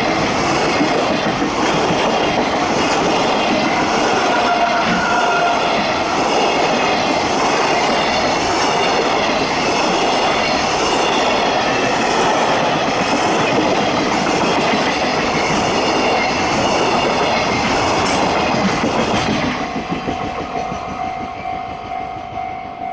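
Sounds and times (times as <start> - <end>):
freight train wheels clattering: 0.0 - 22.9.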